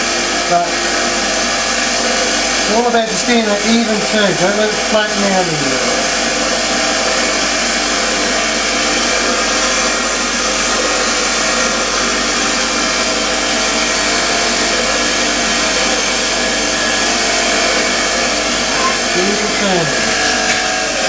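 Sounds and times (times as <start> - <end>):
wire wheel grinder scrubbing metal: 0.0 - 21.0.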